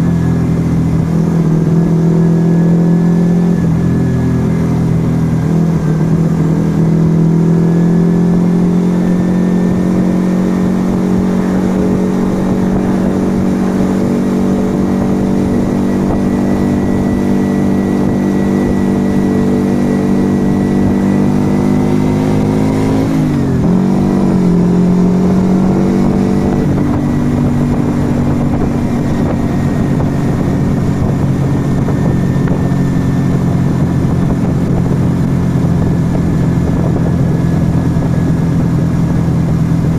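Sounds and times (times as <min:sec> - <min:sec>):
motorcycle v-twin engine cruising: 0:00.0 - 0:39.9.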